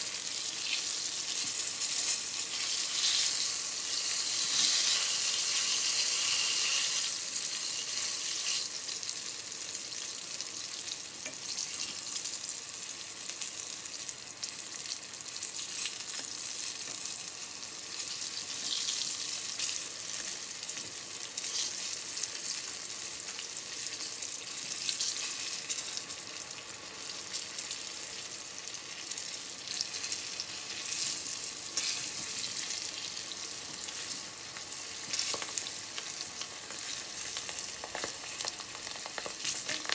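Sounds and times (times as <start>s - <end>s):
sauce sizzling in a frying pan: 0.0s - 39.9s.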